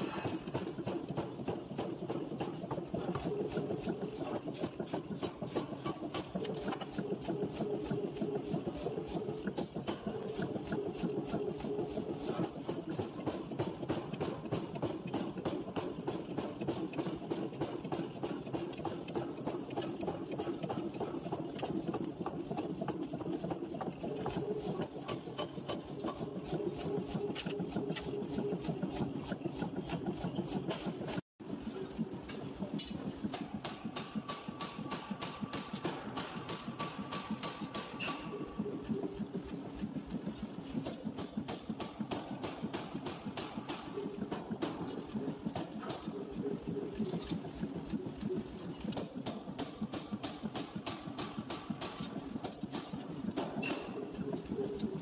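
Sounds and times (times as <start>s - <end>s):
forging machinery humming: 0.0s - 55.0s.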